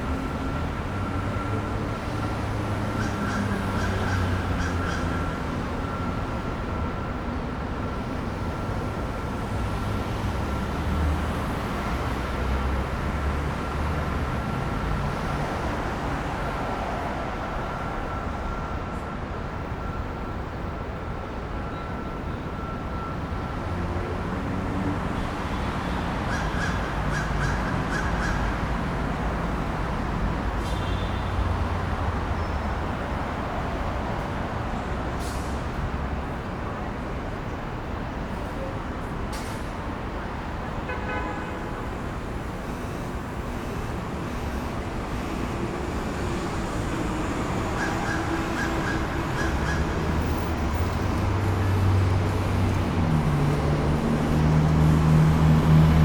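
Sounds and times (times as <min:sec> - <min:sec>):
traffic passing: 0:00.0 - 0:56.0.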